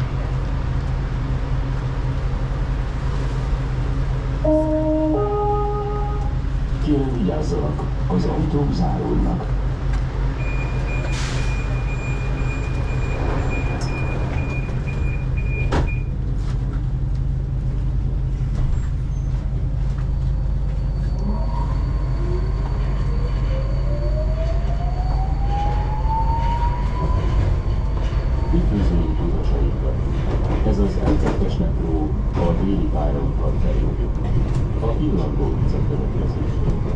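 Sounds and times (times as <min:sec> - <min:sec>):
train running rumble: 0:00.0 - 0:36.9.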